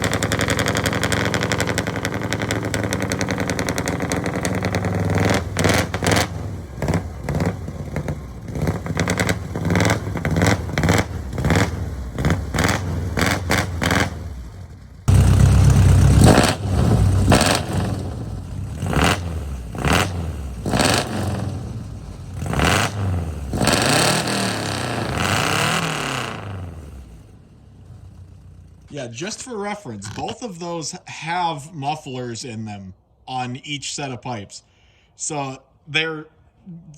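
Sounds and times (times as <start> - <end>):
pickup engine revving: 0.0 - 30.4.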